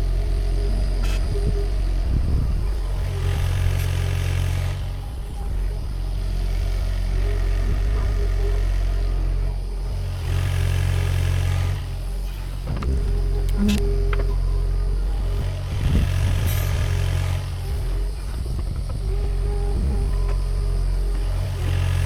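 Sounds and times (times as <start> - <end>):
excavator diesel engine running: 0.0 - 22.0
high hydraulic whine: 0.0 - 22.0.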